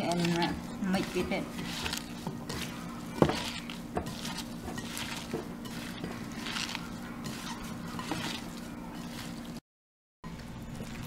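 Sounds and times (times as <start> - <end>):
wet rustling of vegetables: 0.0 - 9.6.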